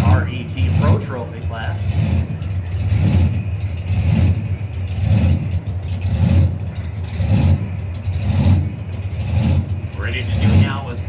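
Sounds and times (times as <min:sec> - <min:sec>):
racing car engine rumbling: 0:00.0 - 0:11.0.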